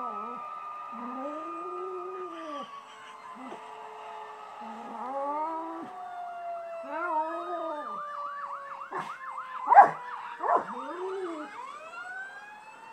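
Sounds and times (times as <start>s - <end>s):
siren yelping: 0.0s - 3.7s, 4.3s - 12.9s
fire truck siren wailing: 0.0s - 12.9s.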